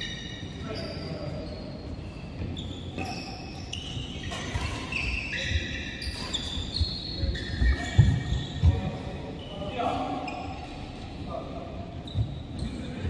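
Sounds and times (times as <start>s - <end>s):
shoes squeaking on court: 0.0s - 11.2s, 11.9s - 13.0s.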